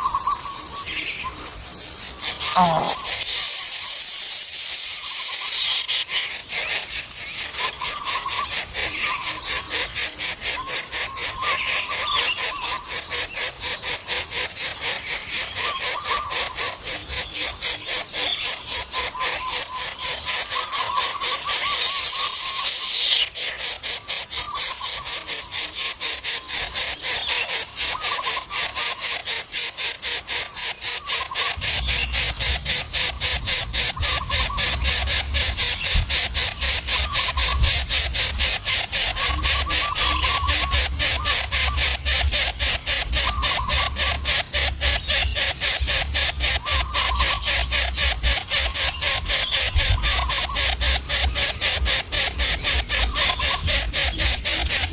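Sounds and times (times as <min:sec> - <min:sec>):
wavering chirps: 0:00.0 - 0:54.9
nestlings rasping hiss: 0:01.3 - 0:54.9.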